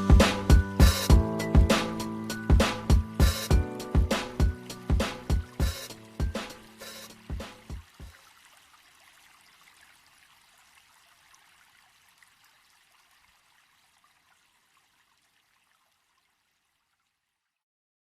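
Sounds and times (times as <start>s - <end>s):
faint trickling water: 0.0s - 17.6s.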